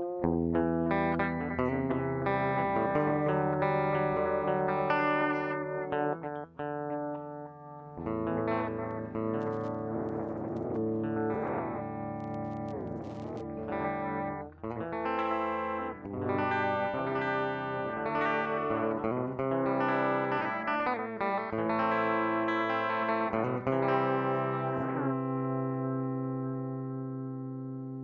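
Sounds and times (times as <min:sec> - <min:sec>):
electric guitar chords with delay: 0:00.0 - 0:28.0.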